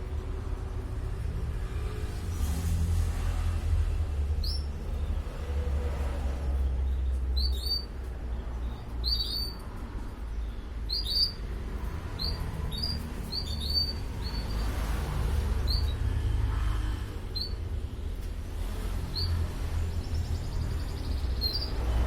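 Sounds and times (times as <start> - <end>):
canaries chirping: 3.9 - 22.0.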